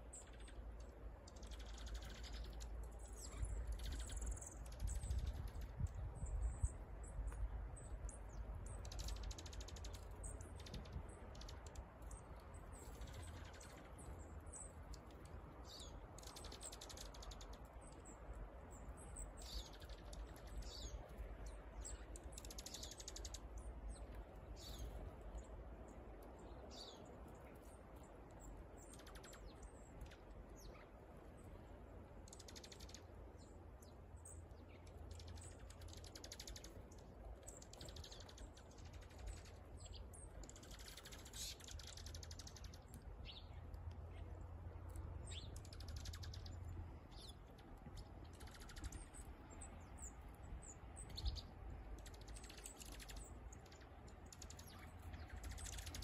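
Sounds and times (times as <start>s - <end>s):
faint low rumble: 0.0s - 56.0s
songbirds chirping and twittering: 0.0s - 56.0s.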